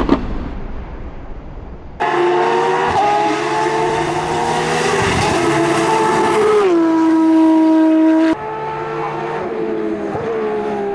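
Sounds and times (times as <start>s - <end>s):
high-pitched sports car tone: 2.0s - 10.9s.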